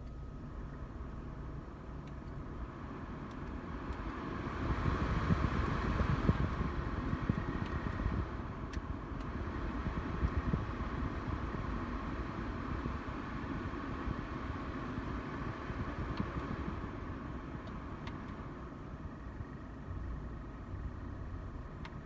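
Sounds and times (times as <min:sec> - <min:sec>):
air conditioning blower fan: 0:00.0 - 0:22.0.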